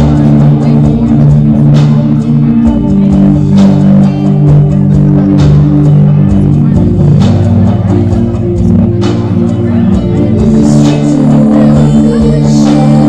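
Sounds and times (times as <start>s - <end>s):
droning guitar notes: 0.0s - 13.0s
loud dance music: 0.0s - 13.0s.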